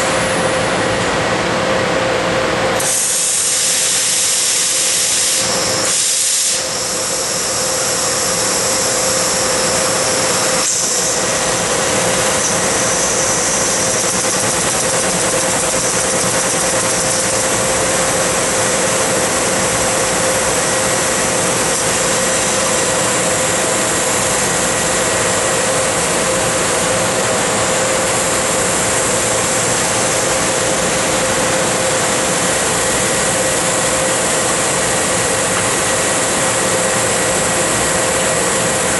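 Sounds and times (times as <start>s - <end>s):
machine hum: 6.7s - 38.9s.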